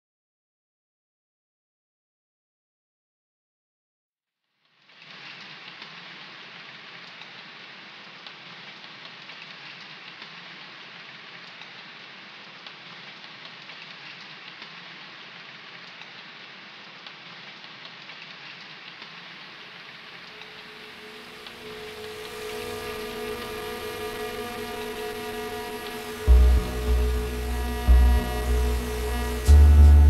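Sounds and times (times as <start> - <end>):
raindrops ticking on surfaces: 4.6 - 30.0
rain falling: 4.7 - 30.0.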